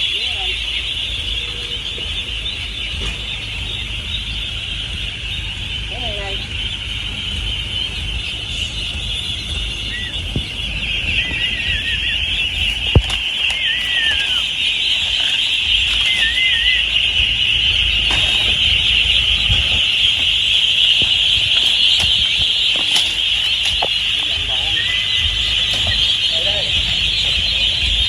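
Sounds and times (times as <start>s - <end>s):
flock of ducks calling: 0.0s - 28.0s
low rumble: 0.0s - 28.0s
warbling duck calls: 0.0s - 28.0s.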